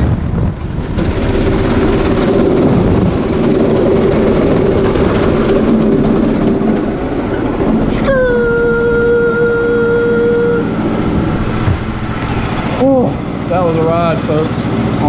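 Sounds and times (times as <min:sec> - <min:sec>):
go-kart engine running: 0:00.0 - 0:15.0.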